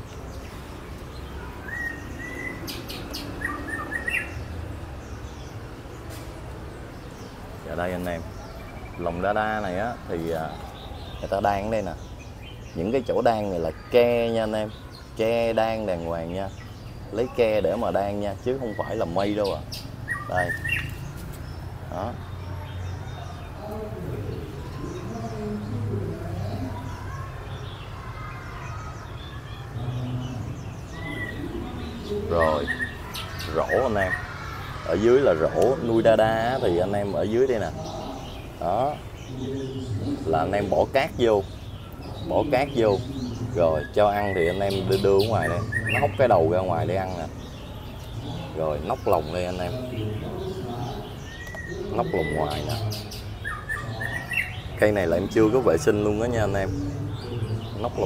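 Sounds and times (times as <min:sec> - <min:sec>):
birds chirping: 0:00.0 - 0:58.0
birds cooing: 0:00.0 - 0:58.0.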